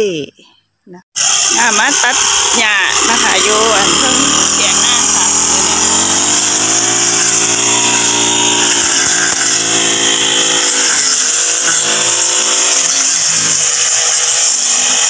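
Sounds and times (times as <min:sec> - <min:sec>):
brush cutter running: 0:01.2 - 0:15.0.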